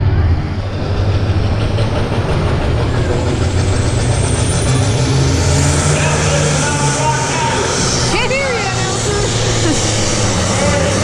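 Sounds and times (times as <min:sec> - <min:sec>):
tractor engine droning under load: 0:00.0 - 0:11.0.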